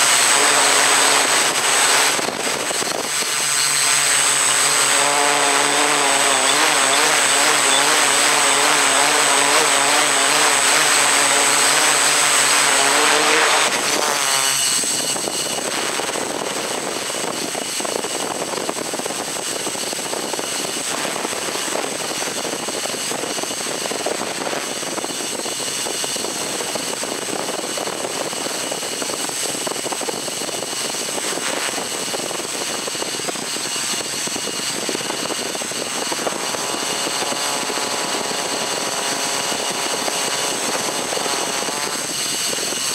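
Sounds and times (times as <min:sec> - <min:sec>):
drone motors humming: 0:00.0 - 0:25.4, 0:26.0 - 0:42.9.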